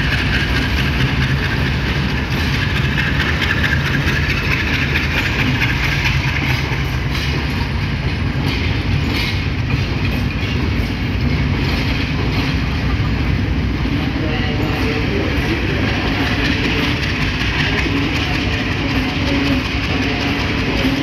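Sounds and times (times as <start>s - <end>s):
clacks over rail joints: 0.0s - 21.0s
train wheels rumbling on rails: 0.0s - 21.0s.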